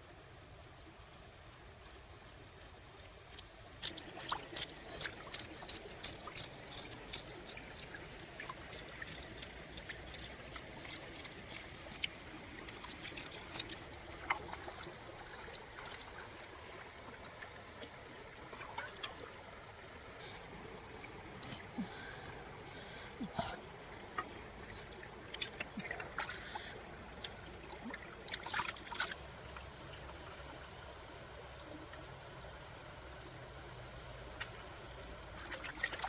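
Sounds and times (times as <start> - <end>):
water trickling and splashing: 0.5 - 36.0.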